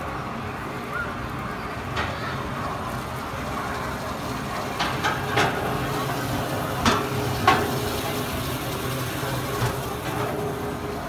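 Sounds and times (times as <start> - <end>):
boat motors humming: 0.0 - 11.0
water rushing and sloshing: 0.0 - 11.0.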